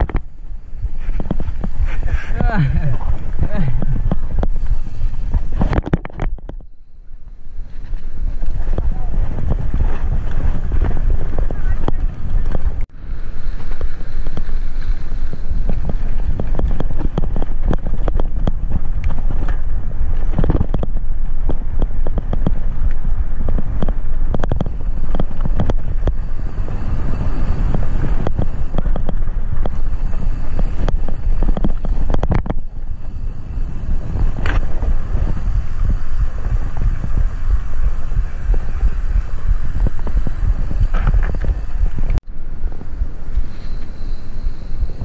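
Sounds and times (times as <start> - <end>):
bike knocks and rattles: 0.0 - 6.8, 7.8 - 12.9, 13.6 - 43.4
wind buffeting microphone: 0.0 - 45.0.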